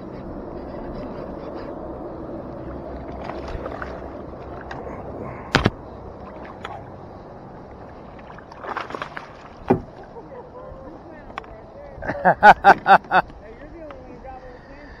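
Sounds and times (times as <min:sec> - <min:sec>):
water background: 0:00.0 - 0:15.0.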